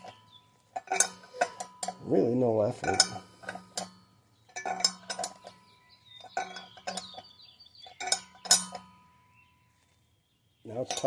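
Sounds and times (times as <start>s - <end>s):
metallic clink: 0.0s - 9.4s, 10.7s - 11.0s.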